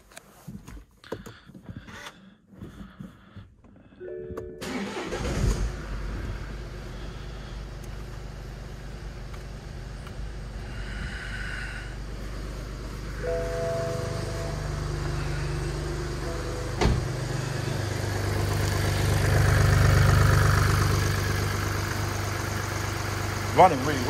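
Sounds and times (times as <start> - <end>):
car engine starting and idling: 4.1 - 24.0.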